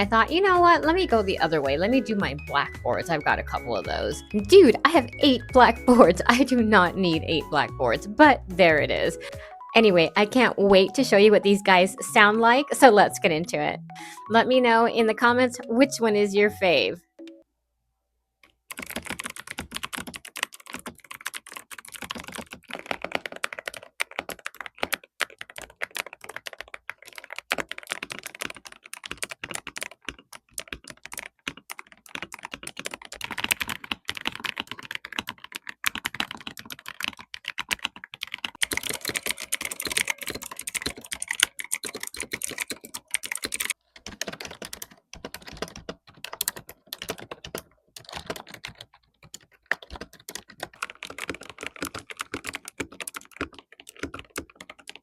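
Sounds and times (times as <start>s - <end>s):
typing on mechanical keyboards: 0.0s - 8.0s, 18.7s - 55.0s.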